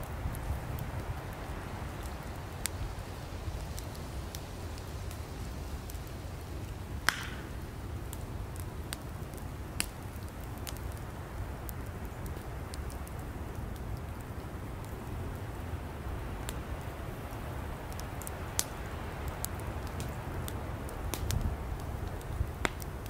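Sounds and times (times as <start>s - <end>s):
campfire rumble: 0.0s - 23.0s
fire crackles and pops: 0.0s - 23.0s.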